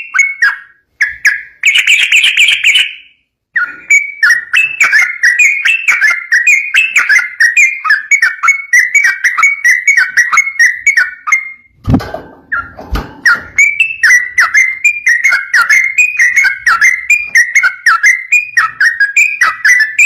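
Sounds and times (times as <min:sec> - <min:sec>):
bird singing bubbly whistles: 0:00.0 - 0:11.8, 0:12.5 - 0:20.0.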